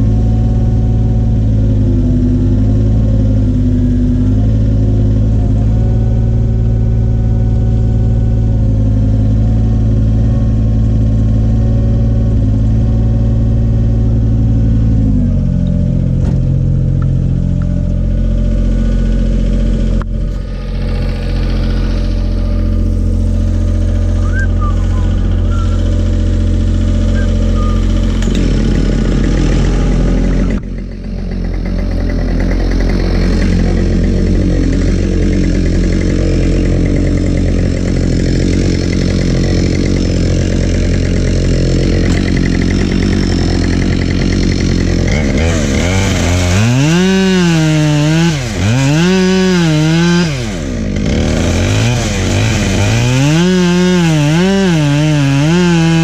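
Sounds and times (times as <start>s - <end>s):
chainsaw cutting firewood: 0.0s - 56.0s
low engine drone: 0.0s - 56.0s.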